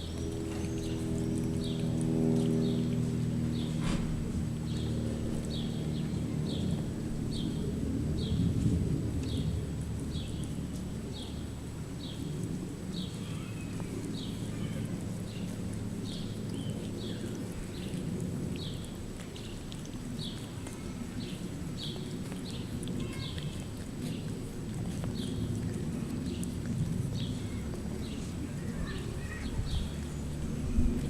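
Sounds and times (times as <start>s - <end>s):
cat licking fur: 0.0s - 31.0s
low hum: 0.0s - 31.0s.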